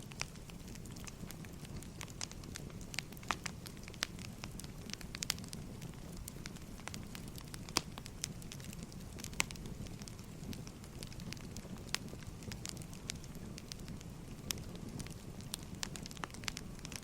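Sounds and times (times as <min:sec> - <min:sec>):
firewood crackling: 0:00.0 - 0:17.0
low rumble of fire: 0:00.0 - 0:17.0.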